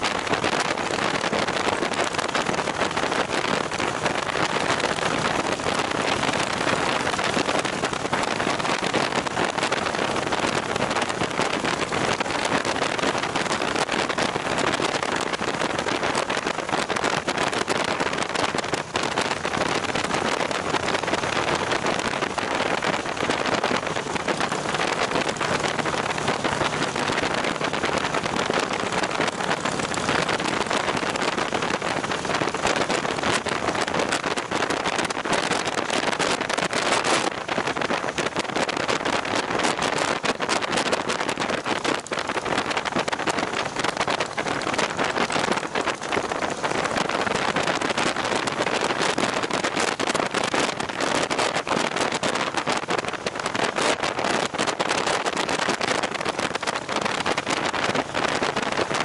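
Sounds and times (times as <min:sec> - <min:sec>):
low engine hum: 0:00.0 - 0:49.5
wind and road noise: 0:00.0 - 0:59.0.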